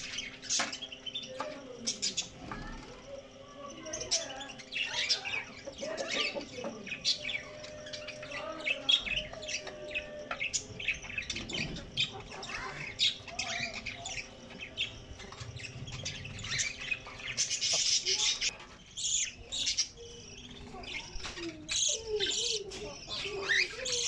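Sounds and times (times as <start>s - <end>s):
birds chirping and squawking: 0.0s - 24.0s.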